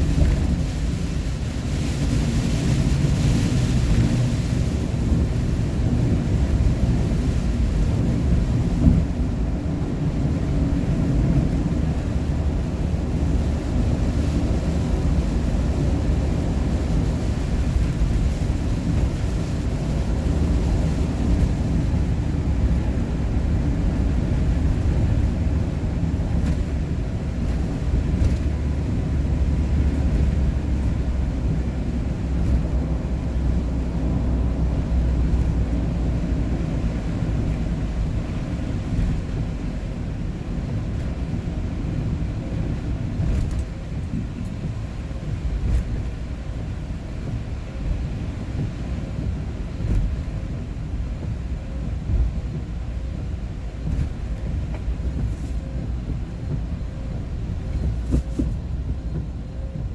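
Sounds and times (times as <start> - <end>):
engine and road noise inside vehicle: 0.0 - 59.9.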